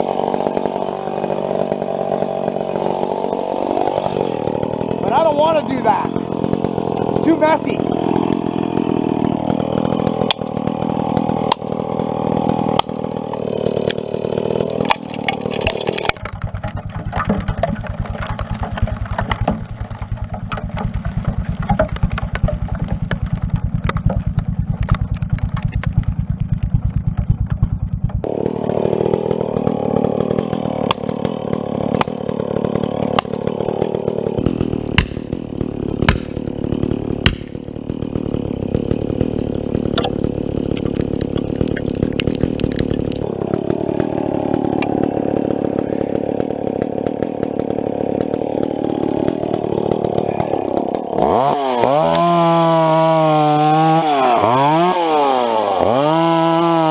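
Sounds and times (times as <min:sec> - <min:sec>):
chainsaw cutting tree: 0:00.0 - 0:56.9.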